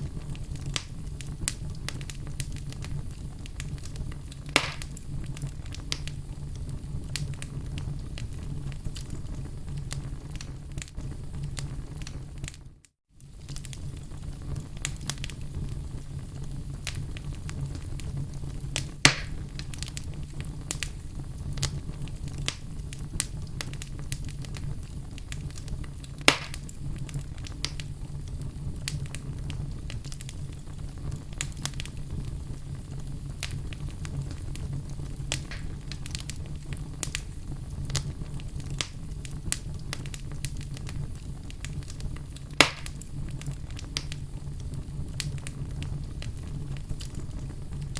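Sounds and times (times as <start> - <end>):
sharp pops of fire: 0.0 - 47.9
wood fire crackling: 0.0 - 47.9.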